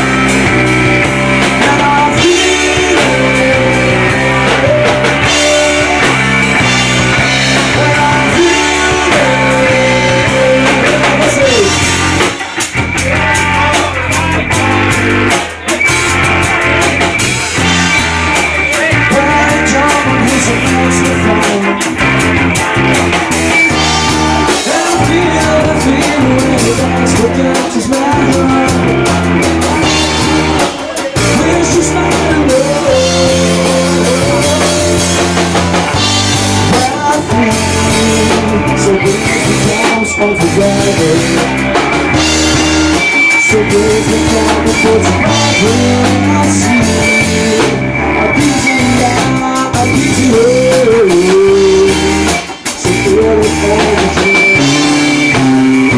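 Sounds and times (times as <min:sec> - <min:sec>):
loud rock music with vocals: 0:00.0 - 0:55.9.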